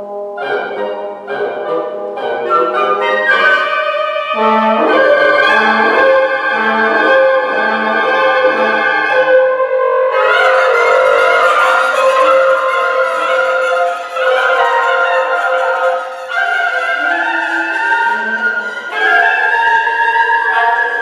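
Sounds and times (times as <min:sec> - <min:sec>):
bassoon: 0:00.0 - 0:21.0
clarinet: 0:00.0 - 0:21.0
flute: 0:00.0 - 0:21.0
horn: 0:00.0 - 0:21.0
oboe: 0:00.0 - 0:21.0.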